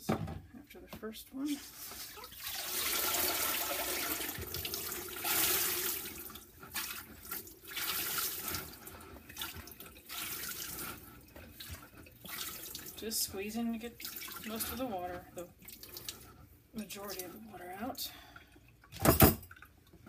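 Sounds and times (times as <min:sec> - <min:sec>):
water draining and splashing: 0:01.6 - 0:20.0.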